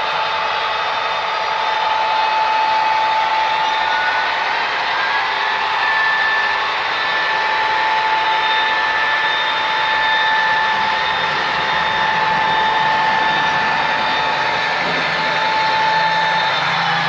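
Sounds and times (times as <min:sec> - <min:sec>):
high whine: 0:00.0 - 0:17.0.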